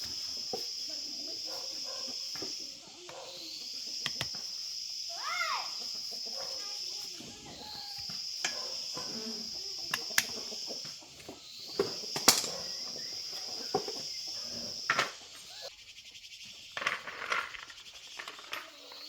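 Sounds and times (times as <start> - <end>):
insect buzzing: 0.0 - 19.0.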